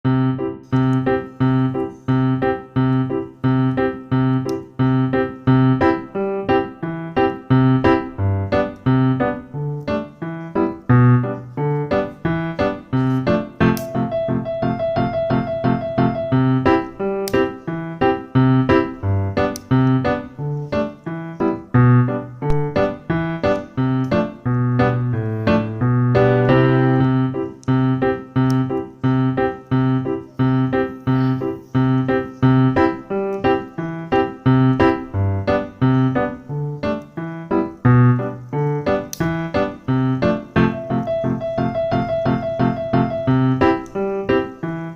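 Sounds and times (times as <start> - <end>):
piano music: 0.0 - 44.9.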